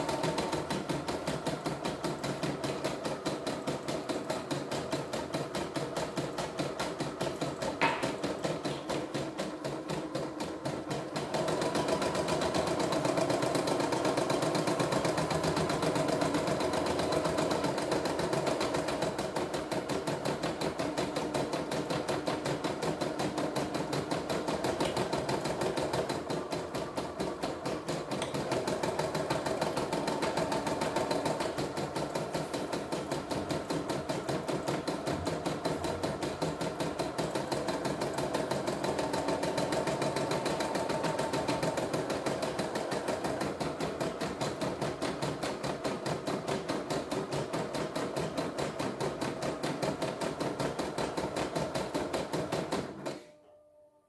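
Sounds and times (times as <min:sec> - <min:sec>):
embroidery machine stitching: 0:00.0 - 0:53.3.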